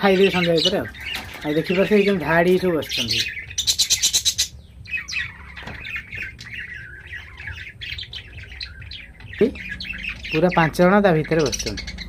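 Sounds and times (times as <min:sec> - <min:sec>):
budgerigars chattering: 0:00.0 - 0:12.0
buzzy bird trill: 0:00.0 - 0:12.0.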